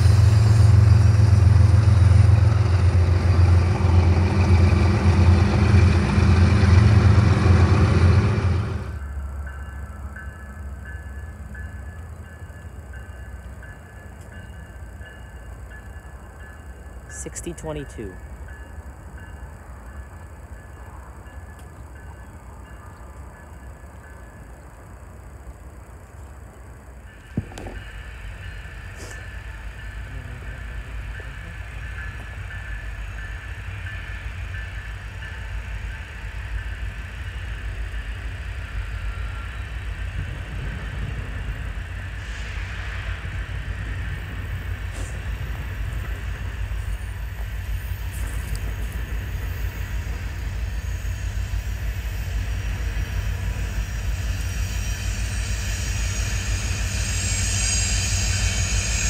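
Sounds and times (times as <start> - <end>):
freight train rumbling by: 0.0 - 59.0.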